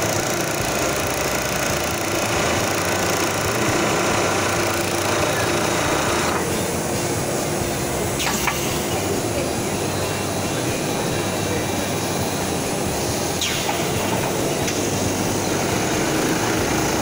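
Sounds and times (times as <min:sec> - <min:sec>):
sewing machine mechanical chatter: 0:00.0 - 0:17.0.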